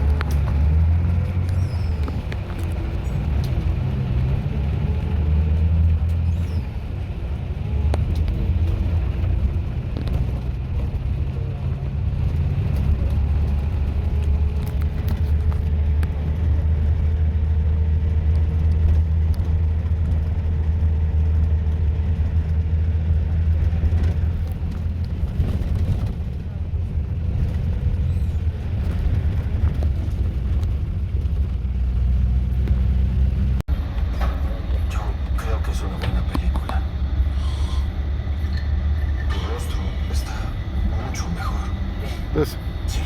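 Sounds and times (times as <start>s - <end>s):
bus engine and road rumble: 0.0s - 43.0s.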